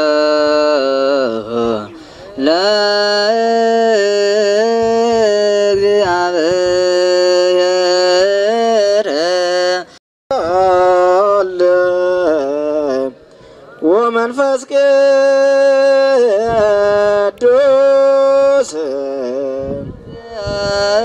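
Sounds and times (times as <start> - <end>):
person chanting a hymn: 0.0 - 21.0.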